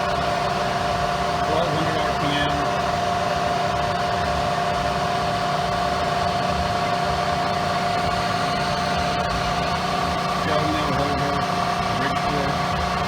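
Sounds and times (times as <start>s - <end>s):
milling machine whine and hum: 0.0s - 13.0s.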